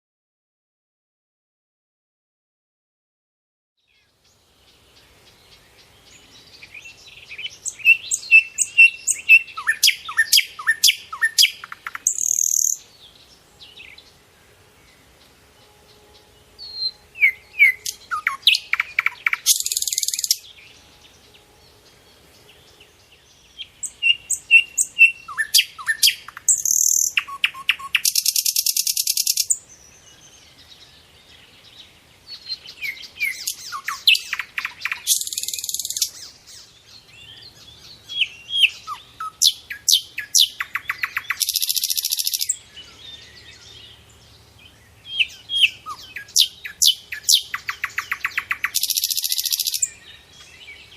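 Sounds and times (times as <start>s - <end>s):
small birds chirping: 3.8s - 50.9s.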